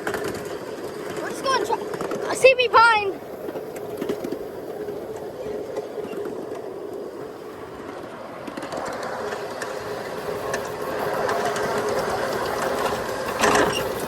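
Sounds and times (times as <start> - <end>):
miniature train wheels clattering: 0.0 - 14.0.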